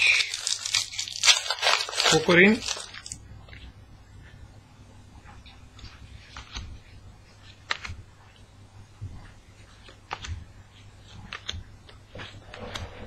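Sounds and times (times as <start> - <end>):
soft rustling of cards: 0.0 - 4.4, 5.2 - 13.0.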